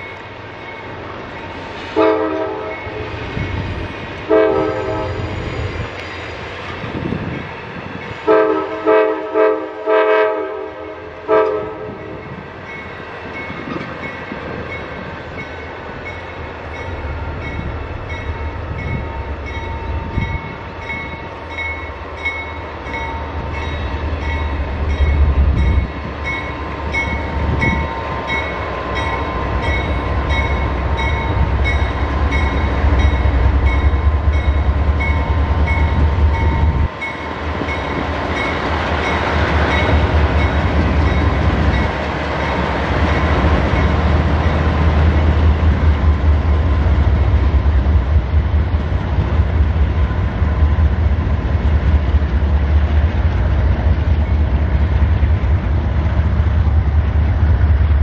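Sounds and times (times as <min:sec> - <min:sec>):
diesel locomotive rumble: 0:00.0 - 0:58.0.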